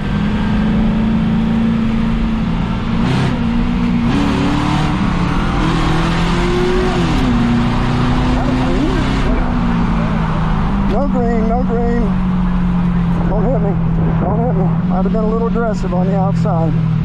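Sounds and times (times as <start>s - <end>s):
race car engine from inside: 0.0s - 17.0s.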